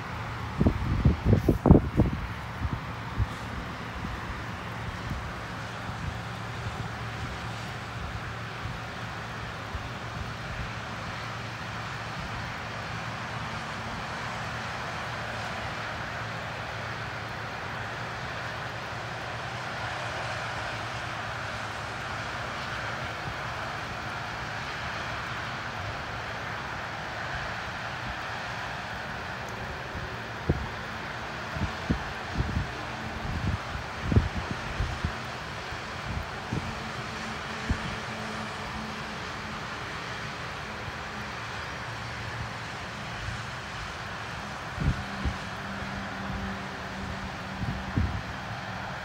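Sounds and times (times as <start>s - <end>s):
outdoor background rumble and hiss: 0.0s - 49.0s.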